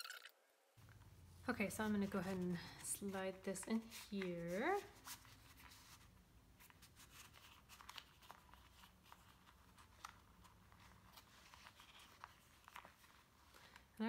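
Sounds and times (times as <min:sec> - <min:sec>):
paper rustling: 0:00.8 - 0:14.0
plastic sleeve handled: 0:00.8 - 0:14.0.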